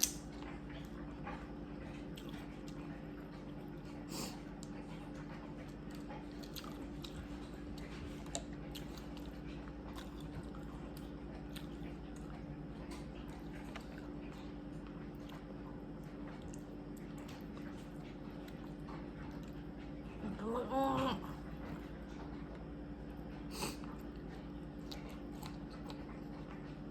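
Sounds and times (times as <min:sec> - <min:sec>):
person chewing wetly: 0:00.0 - 0:20.1, 0:21.1 - 0:26.9
steady low hum: 0:00.0 - 0:26.9.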